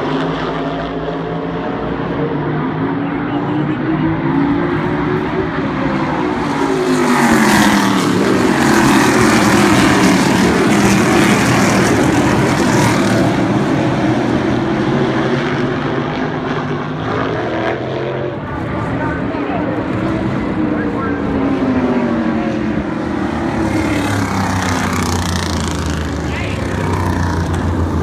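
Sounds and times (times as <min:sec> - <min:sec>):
race cars passing at speed: 0:00.0 - 0:28.0.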